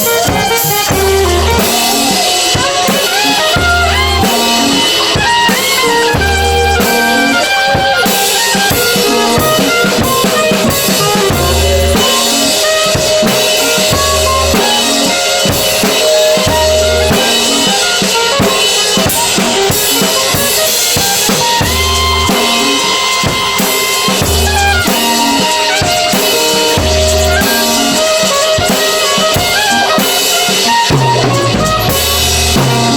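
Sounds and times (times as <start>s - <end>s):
drum kit playing: 0.0s - 32.9s
held melodic notes: 0.0s - 32.9s.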